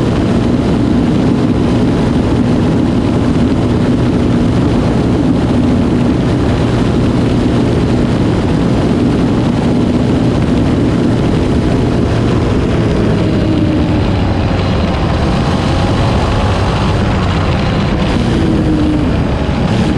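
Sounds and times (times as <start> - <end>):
atv engine running at speed: 0.0 - 19.9
loud wind rush: 0.0 - 19.9.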